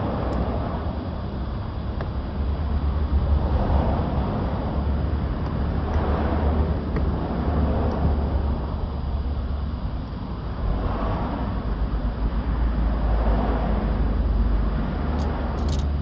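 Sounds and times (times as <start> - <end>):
low rumble and rushing: 0.0 - 16.0.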